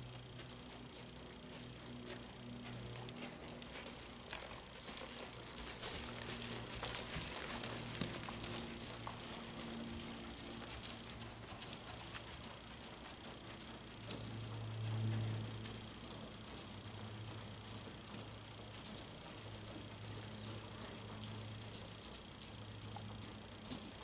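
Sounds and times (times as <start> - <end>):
horse hooves on sand: 0.0 - 24.0
low steady hum: 0.0 - 24.0.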